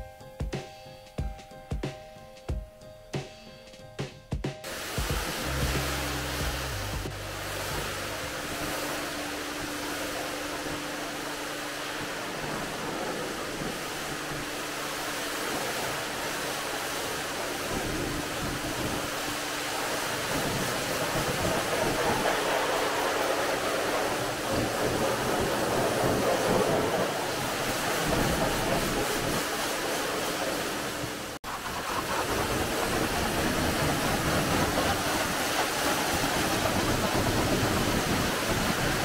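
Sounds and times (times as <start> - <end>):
water spraying on car: 4.6 - 39.0.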